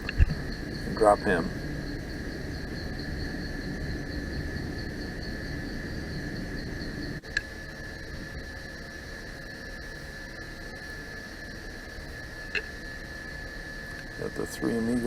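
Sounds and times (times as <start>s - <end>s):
electronic hiss and whine: 0.0s - 15.0s
faint pulsing high tone: 0.0s - 15.0s.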